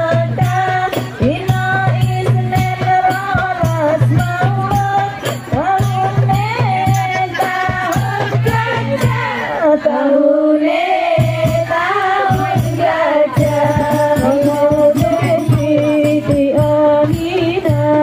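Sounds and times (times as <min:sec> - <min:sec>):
hand percussion beats: 0:00.0 - 0:09.5, 0:11.0 - 0:18.0
devotional song over loudspeakers: 0:00.0 - 0:18.0.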